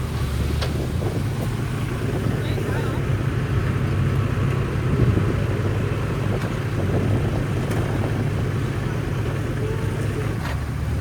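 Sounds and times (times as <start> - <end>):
bulldozer diesel engine rumbling: 0.0 - 11.0.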